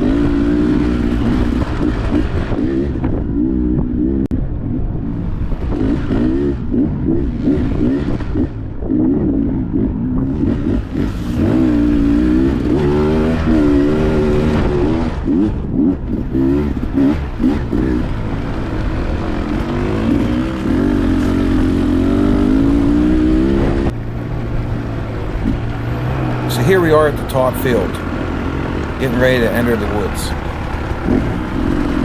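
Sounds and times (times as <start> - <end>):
dirt bike engine revving: 0.0 - 4.3, 5.5 - 32.0.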